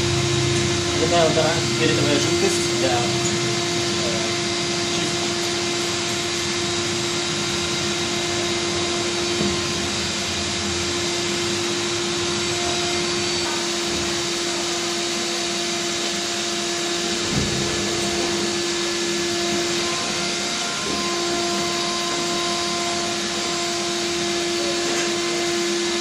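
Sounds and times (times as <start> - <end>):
electric blower motor whining: 0.0 - 26.0.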